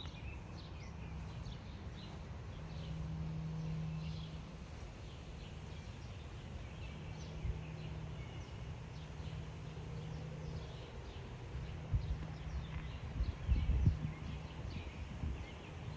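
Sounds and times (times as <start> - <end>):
low hum and rumble: 0.0 - 15.9
small birds chirping: 0.0 - 15.9.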